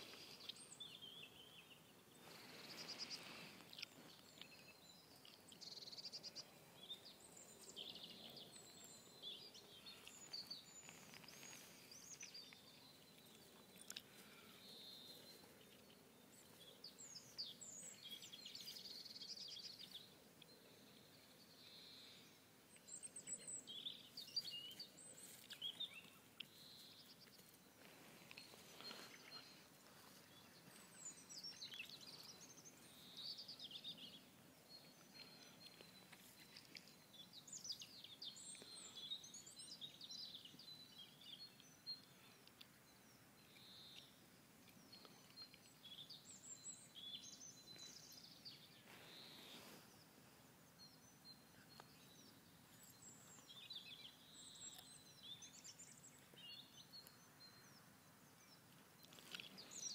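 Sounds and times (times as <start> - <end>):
faint songbirds chirping: 0.0 - 59.9.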